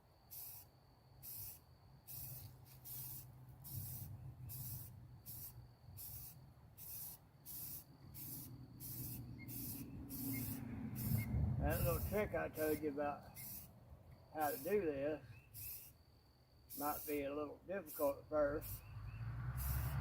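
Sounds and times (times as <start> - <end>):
spray paint hissing squirts: 0.3 - 13.7, 14.4 - 14.9, 15.6 - 16.0, 16.7 - 18.9, 19.6 - 20.0.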